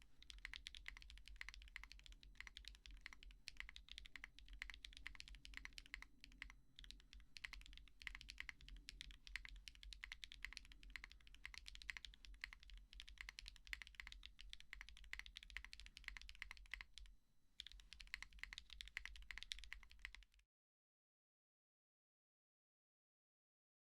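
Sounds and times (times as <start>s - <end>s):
mechanical keyboard keys clacking: 0.2s - 20.2s.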